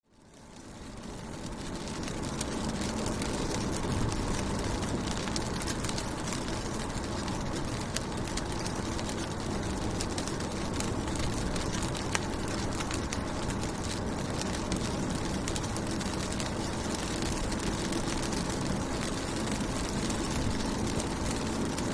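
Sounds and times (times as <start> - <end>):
rain on car window: 0.0 - 21.9
low rumble: 0.7 - 21.9.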